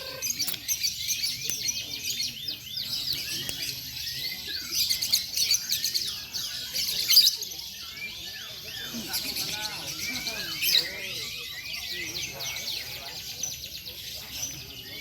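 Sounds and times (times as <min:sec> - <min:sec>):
canaries singing trills: 0:00.0 - 0:15.0.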